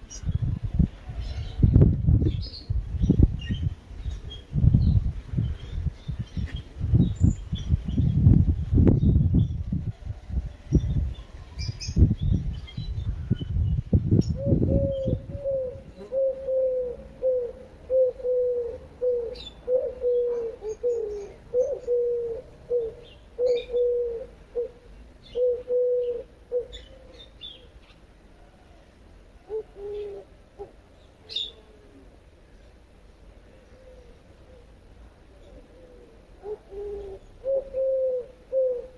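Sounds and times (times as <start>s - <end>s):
small birds chirping: 0.0s - 9.8s, 10.4s - 16.4s, 19.0s - 28.2s, 29.4s - 37.9s.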